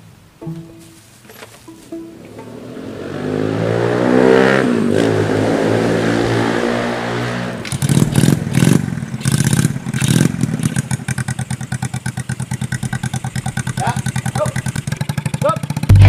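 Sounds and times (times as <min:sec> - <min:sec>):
scooter engine revving: 0:02.2 - 0:16.0.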